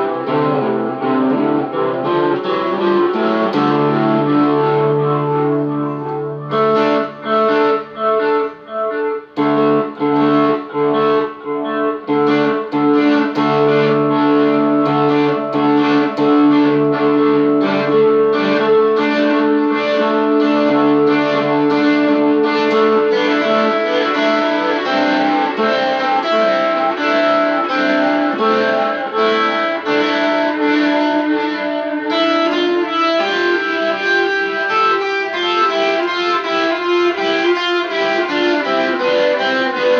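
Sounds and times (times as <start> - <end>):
electric guitar rock solo: 0.0 - 39.9.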